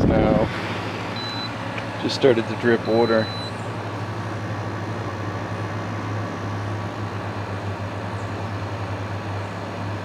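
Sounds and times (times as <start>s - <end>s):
compressor hum: 0.0s - 10.0s
dehumidifier fan blowing: 0.0s - 10.0s.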